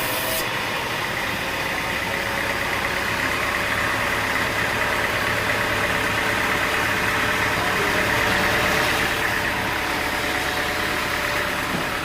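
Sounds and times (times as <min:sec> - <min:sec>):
sawmill machinery hum: 0:00.0 - 0:12.0.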